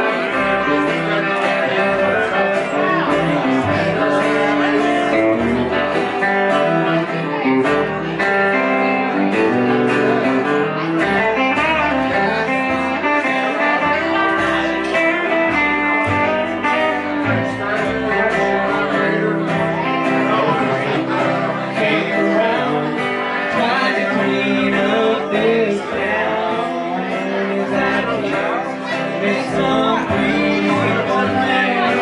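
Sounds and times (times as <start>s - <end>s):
plucked and strummed guitar: 0.0s - 32.0s
upright bass line: 0.0s - 32.0s.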